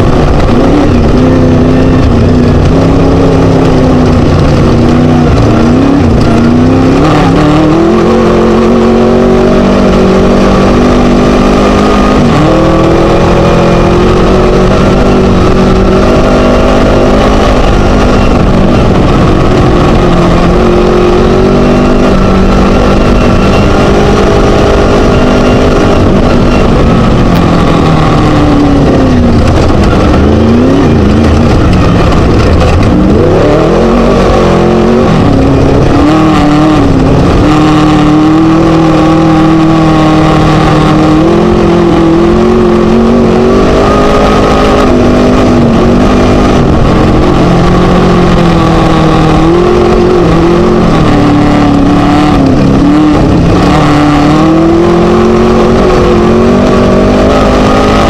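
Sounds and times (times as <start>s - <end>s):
off-road rattle: 0.0s - 58.0s
race buggy engine revving: 0.0s - 58.0s.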